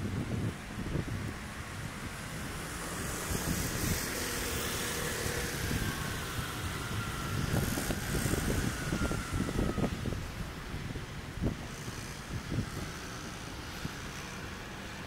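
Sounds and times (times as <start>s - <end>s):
vehicle passing with whine: 0.0s - 15.0s
wind buffeting microphone: 0.0s - 15.0s.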